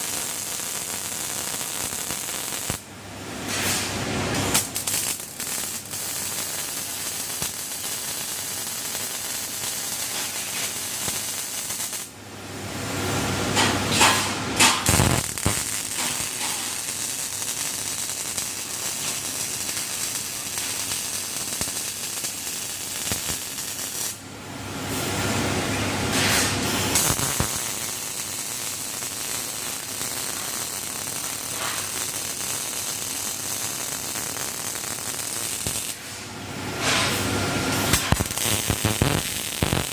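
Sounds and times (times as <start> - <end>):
arc welding crackling hiss: 0.0 - 2.8, 3.4 - 12.2, 12.9 - 24.2, 26.1 - 39.9.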